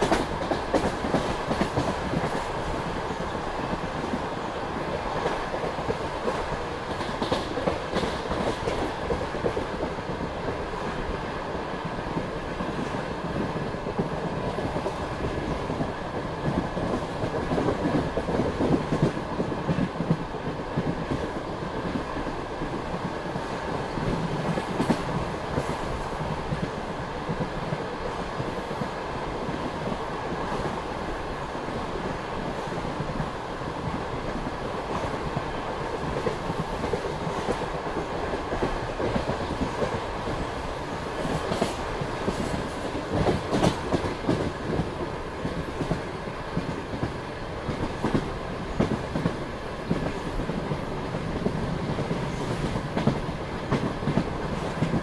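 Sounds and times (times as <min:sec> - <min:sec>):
train carriage rumble: 0:00.0 - 0:55.0.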